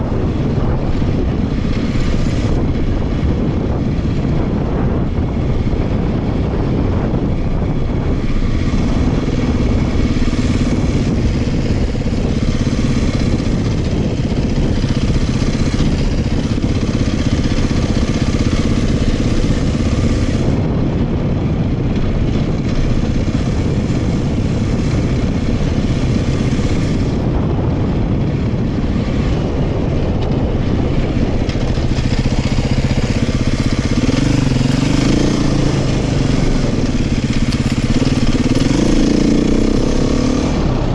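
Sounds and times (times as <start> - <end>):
dirt bike engine revving: 0.0 - 40.9
wind noise on microphone: 0.0 - 40.9.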